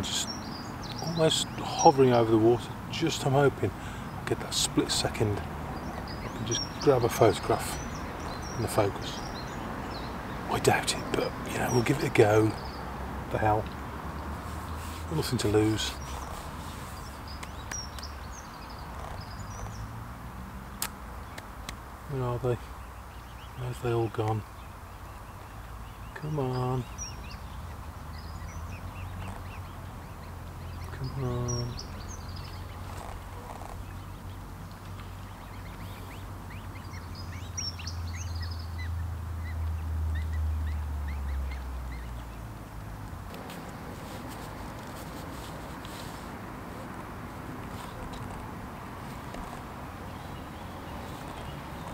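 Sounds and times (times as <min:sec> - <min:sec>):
distant road traffic rumble: 0:00.0 - 0:51.9
small birds chirping: 0:00.0 - 0:51.9.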